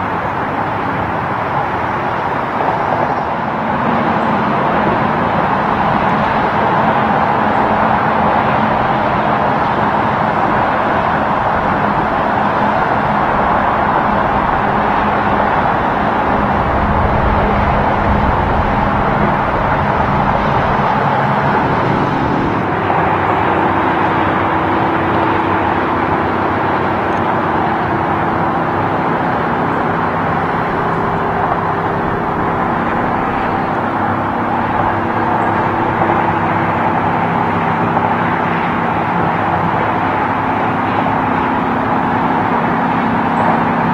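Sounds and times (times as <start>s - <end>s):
highway traffic tyre noise: 0.0s - 43.9s
low engine hum: 0.0s - 43.9s.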